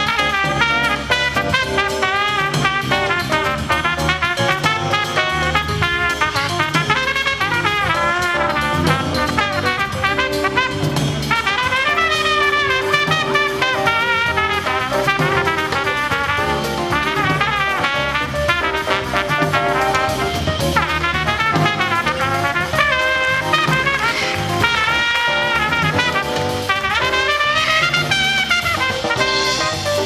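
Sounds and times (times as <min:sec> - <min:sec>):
jazzy brass show music: 0:00.0 - 0:30.0.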